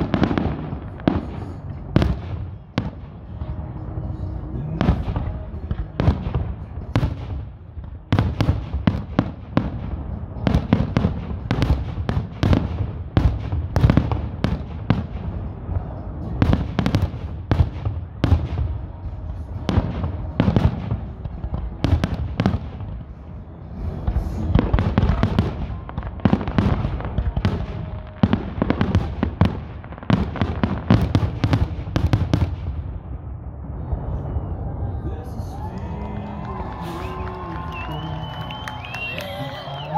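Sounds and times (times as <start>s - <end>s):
fireworks bursts and bangs: 0.0s - 33.2s, 35.2s - 39.9s
low rumble: 0.0s - 39.1s
fireworks crackling: 0.0s - 39.9s.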